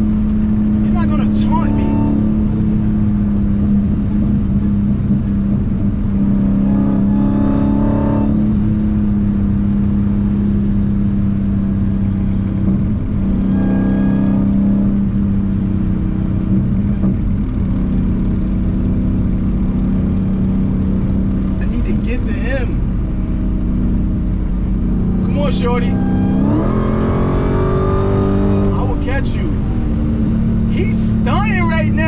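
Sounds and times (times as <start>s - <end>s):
car engine from inside cabin: 0.0s - 32.0s.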